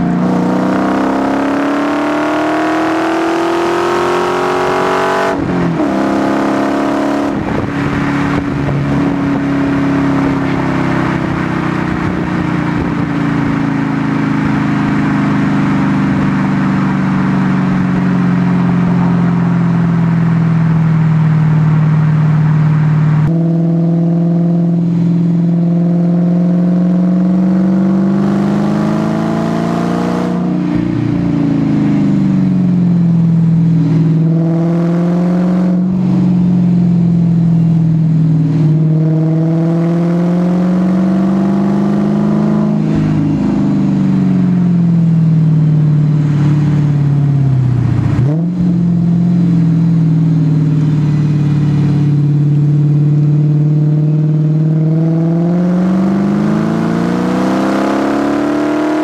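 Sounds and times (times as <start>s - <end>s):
car exhaust while cruising: 0.0s - 59.0s.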